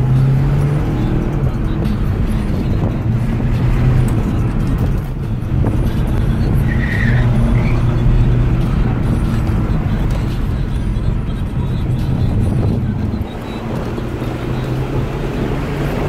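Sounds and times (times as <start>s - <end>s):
diesel car engine from inside cabin: 0.0s - 16.0s.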